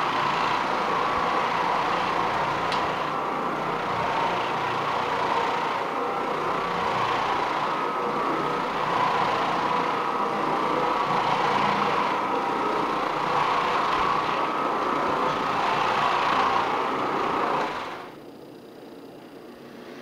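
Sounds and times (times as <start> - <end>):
floor machine motor hum and whine: 0.0 - 20.0.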